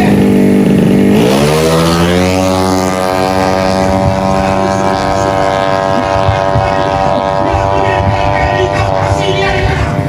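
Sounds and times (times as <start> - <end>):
scooter engine at full throttle: 0.0 - 10.0.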